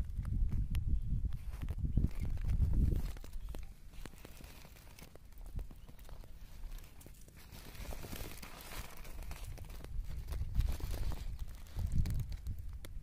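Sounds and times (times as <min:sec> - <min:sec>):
plastic sack rustling: 0:02.1 - 0:13.0.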